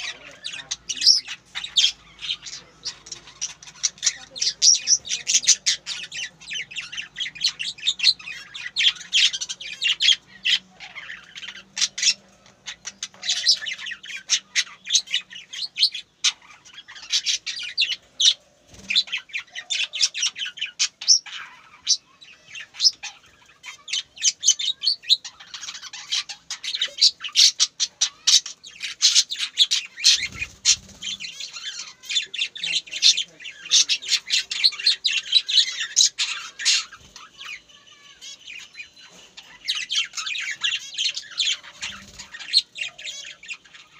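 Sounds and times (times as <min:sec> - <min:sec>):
bird chirping and squawking: 0:00.0 - 0:43.9.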